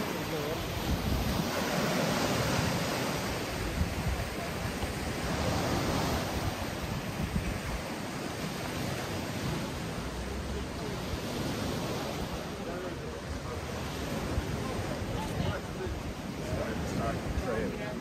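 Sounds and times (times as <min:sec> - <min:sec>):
sea surf breaking on beach: 0:00.0 - 0:18.0.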